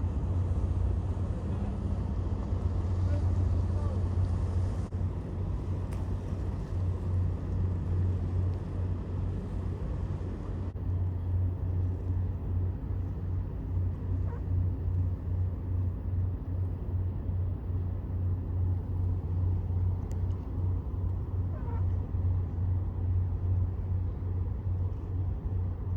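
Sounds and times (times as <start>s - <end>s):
boat engine rumble: 0.0s - 25.9s.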